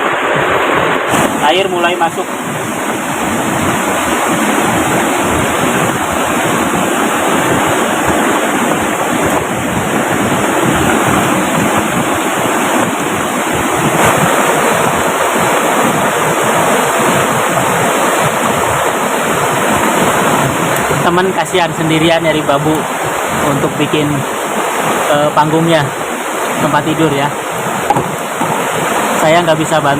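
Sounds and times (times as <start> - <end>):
heavy rain pouring: 0.0 - 29.9
river rushing: 0.0 - 29.9.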